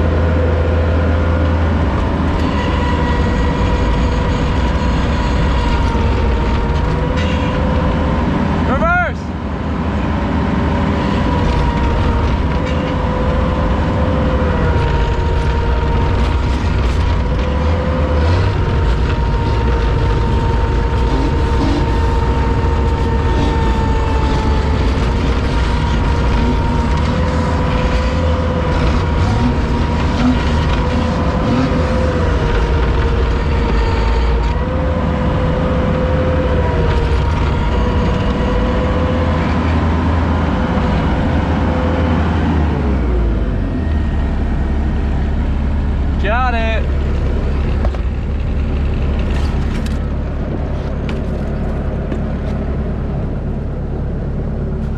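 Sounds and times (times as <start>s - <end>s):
vehicle engine running under load: 0.0s - 54.9s.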